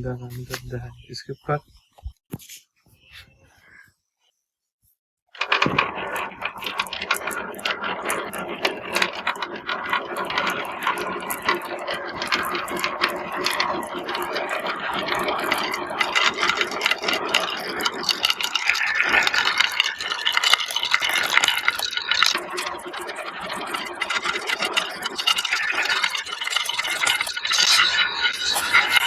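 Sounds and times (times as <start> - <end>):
marbles rattling down marble run: 5.4 - 29.0.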